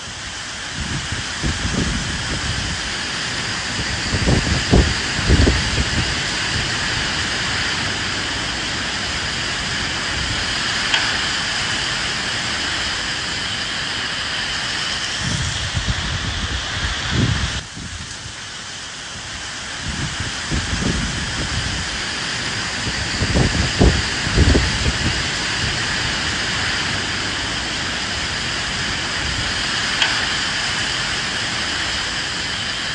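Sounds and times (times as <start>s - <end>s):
steady rain falling: 0.0s - 32.9s
wind gusts rumbling low: 0.0s - 32.9s.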